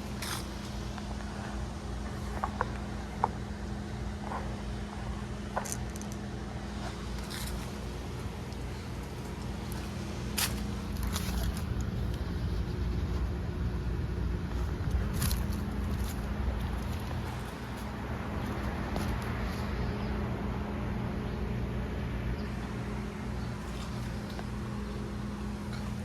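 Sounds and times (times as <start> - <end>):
heat pump compressor and fan hum: 0.0 - 26.0.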